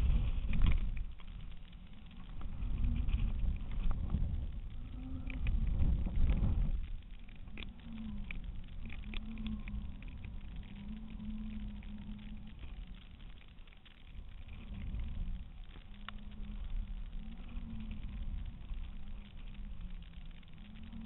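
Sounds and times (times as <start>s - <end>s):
faint hum: 0.0s - 21.0s
light ticks: 0.0s - 21.0s
wind buffeting camera: 0.0s - 21.0s.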